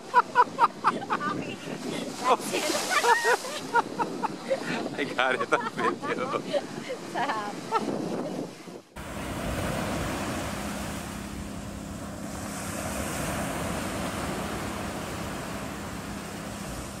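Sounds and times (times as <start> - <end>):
sea surf on beach: 0.0 - 17.0
wind on microphone: 0.0 - 17.0.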